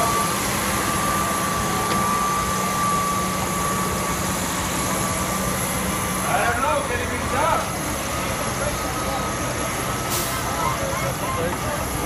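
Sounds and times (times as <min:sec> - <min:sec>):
steady high whine: 0:00.0 - 0:12.0
tractor diesel engine under load: 0:00.0 - 0:12.0.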